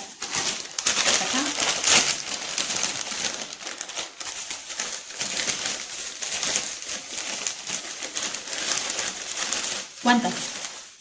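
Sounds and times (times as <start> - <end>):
chips shaken into plastic bag: 0.0 - 11.0
plastic snack bag crinkling: 0.0 - 11.0.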